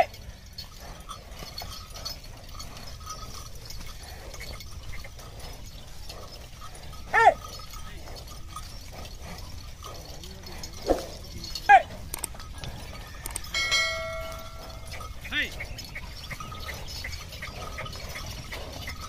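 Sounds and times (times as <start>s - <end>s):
cart creaking and ticking: 0.0s - 19.0s
soft hoof steps: 0.0s - 19.0s.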